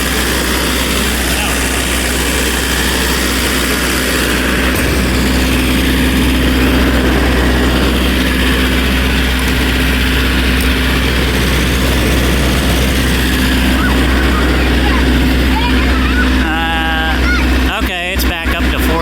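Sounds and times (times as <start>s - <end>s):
diesel generator droning: 0.0s - 19.0s.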